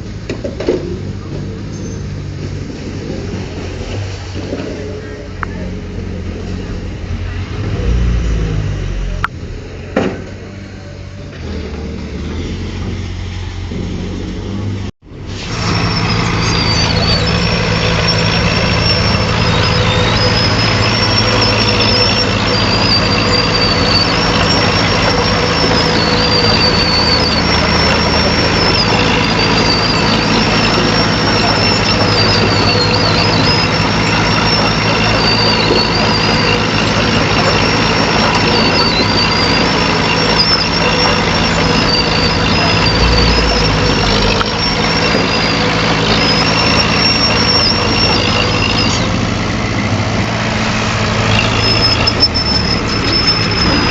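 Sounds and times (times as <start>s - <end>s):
heavy diesel machine running: 0.0s - 53.9s
high squeal: 0.0s - 53.9s.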